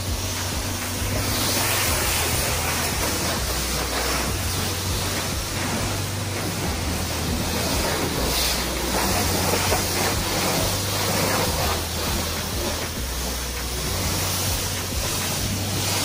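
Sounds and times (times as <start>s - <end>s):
pressure washer spraying water: 0.0s - 16.0s.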